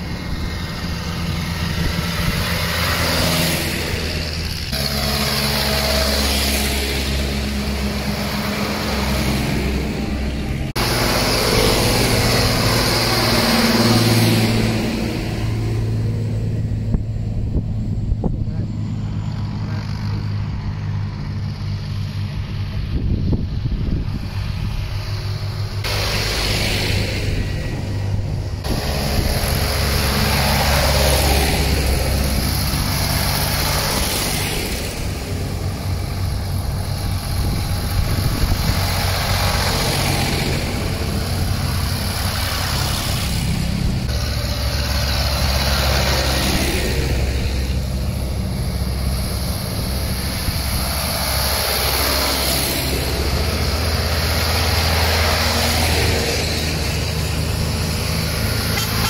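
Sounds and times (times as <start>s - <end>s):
low engine drone: 0.0s - 59.0s
tractors driving past: 0.0s - 59.0s.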